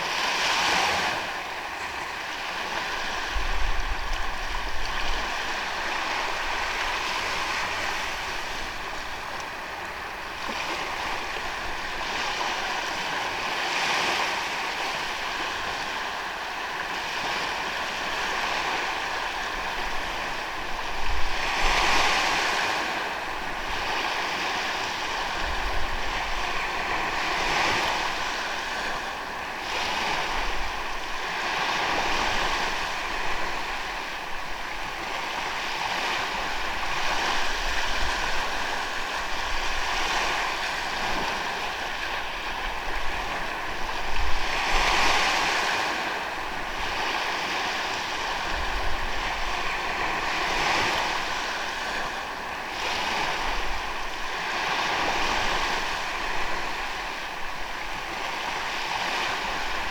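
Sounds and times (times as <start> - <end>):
ocean waves on sandy beach: 0.0 - 59.9
wind rumbling on microphone: 0.0 - 59.9.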